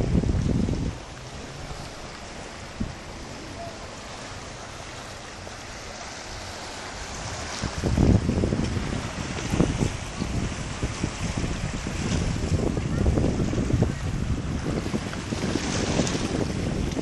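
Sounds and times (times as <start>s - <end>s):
sea water lapping among rocks: 0.0s - 17.0s
wind buffeting microphone: 0.0s - 17.0s.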